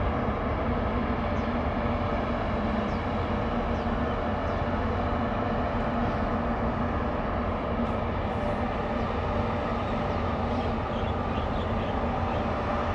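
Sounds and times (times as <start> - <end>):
constant rush of noise: 0.0 - 12.9
ship machinery drone: 0.0 - 12.9.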